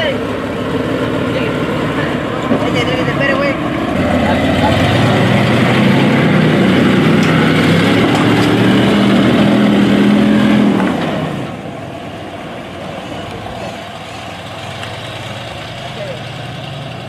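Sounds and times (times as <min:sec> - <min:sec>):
truck engine driving past: 0:00.0 - 0:17.0.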